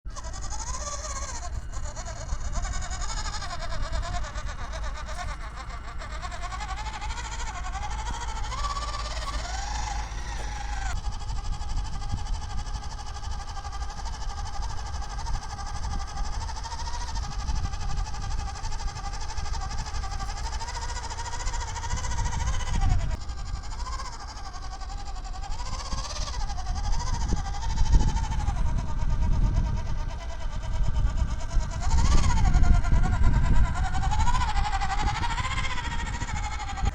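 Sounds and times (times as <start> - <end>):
toy truck electric motor whining: 0.1 - 36.9.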